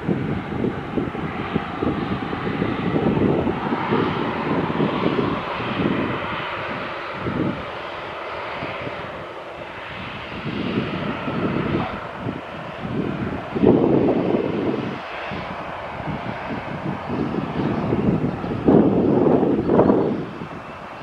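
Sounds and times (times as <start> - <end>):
jet engine noise: 0.0 - 21.0
wind gusting on microphone: 0.0 - 21.0.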